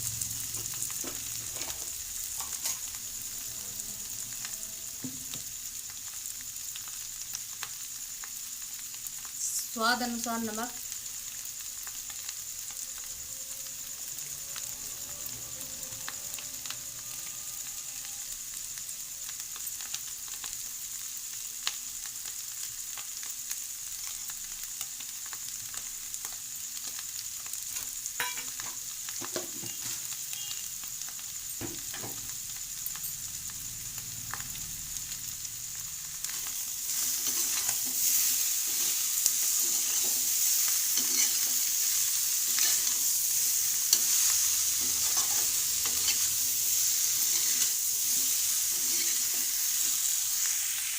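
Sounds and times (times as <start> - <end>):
potatoes sizzling in hot oil: 0.0 - 50.9.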